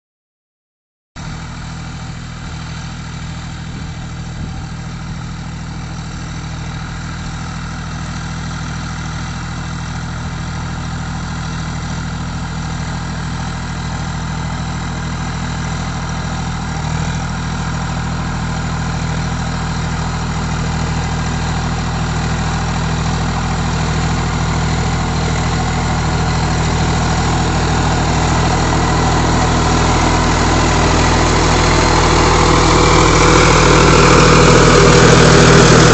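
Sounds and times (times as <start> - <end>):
tractor diesel engine running: 1.2 - 35.9.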